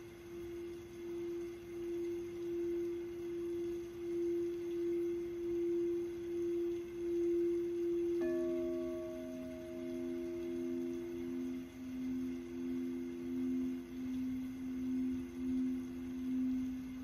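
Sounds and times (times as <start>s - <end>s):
lower bowl struck and ringing: 0.0s - 17.0s
singing bowl tone: 0.0s - 17.0s.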